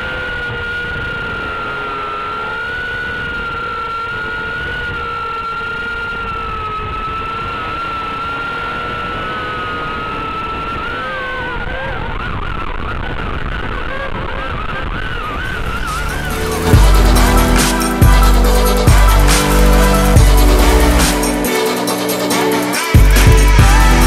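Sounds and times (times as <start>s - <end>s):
small drone motors whining: 0.0s - 12.4s, 15.0s - 24.0s.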